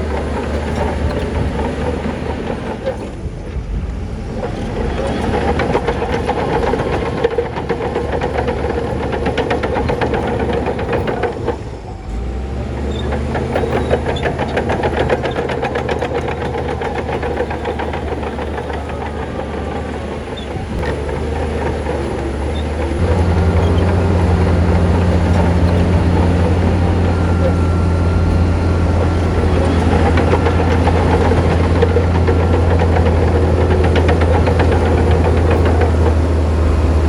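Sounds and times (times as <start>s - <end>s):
rapid metallic clatter: 0.0s - 3.3s, 4.3s - 11.8s, 12.7s - 37.0s
heavy diesel machinery running: 0.0s - 37.0s.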